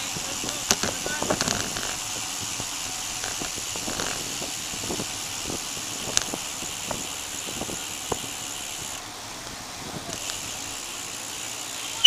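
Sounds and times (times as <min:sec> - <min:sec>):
rushing wind: 0:00.0 - 0:10.8
bicycle road noise: 0:00.0 - 0:12.0.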